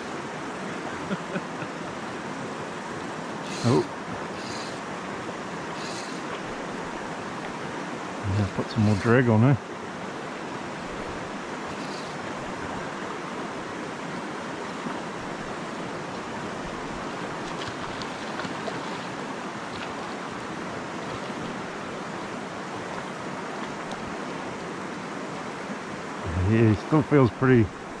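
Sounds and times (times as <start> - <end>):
stream rushing over stones: 0.0 - 28.0.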